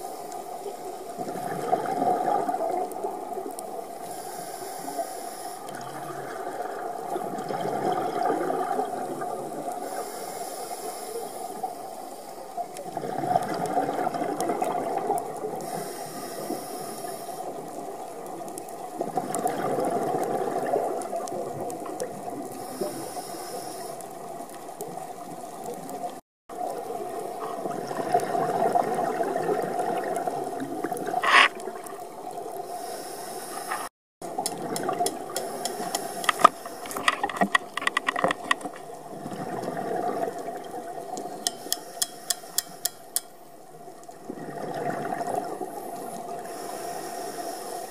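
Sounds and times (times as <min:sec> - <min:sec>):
muffled underwater water wash: 0:00.0 - 0:42.3, 0:43.4 - 0:47.9.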